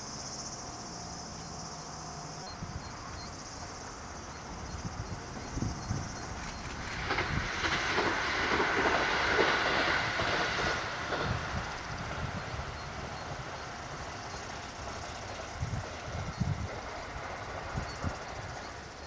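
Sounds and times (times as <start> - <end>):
rushing hiss of passing train: 0.0 - 19.0
train wheels clattering over rail joints: 2.6 - 19.0.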